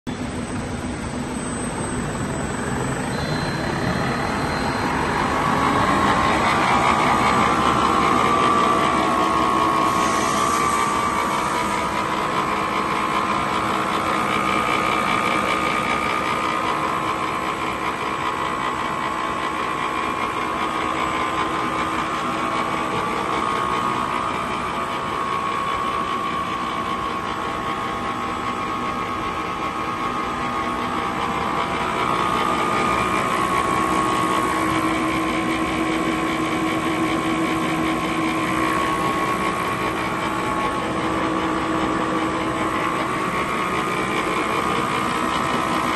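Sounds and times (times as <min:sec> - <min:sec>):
machine motors and rollers whining: 0:00.1 - 0:45.9.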